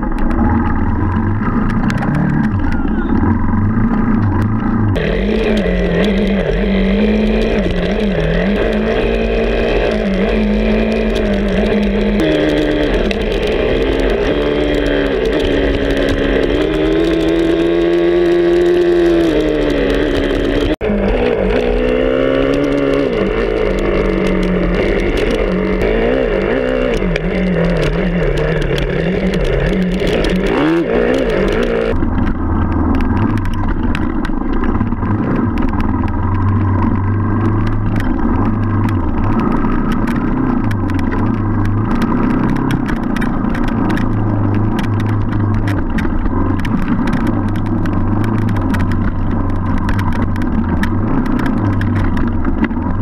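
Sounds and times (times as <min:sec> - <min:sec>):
dirt bike engine revving: 0:00.0 - 0:53.0
engine ticks and knocks: 0:00.0 - 0:53.0.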